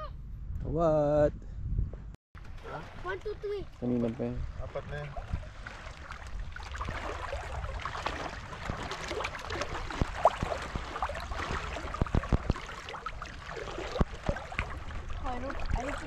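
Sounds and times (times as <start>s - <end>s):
seawater splashing from wading: 2.4s - 16.0s.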